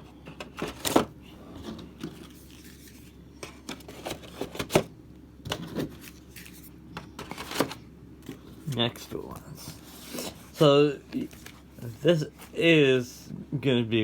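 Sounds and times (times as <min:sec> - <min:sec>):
cards and packaging rustling: 0:00.4 - 0:04.9, 0:05.5 - 0:12.9.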